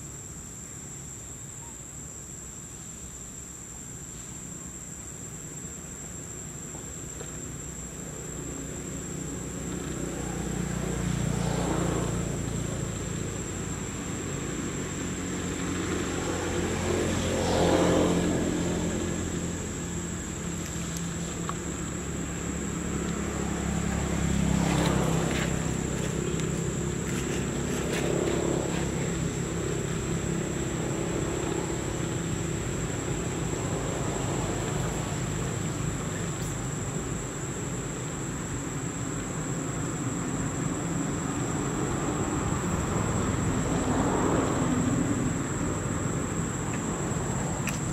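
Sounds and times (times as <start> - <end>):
passing traffic engine rumble: 5.5 - 47.9.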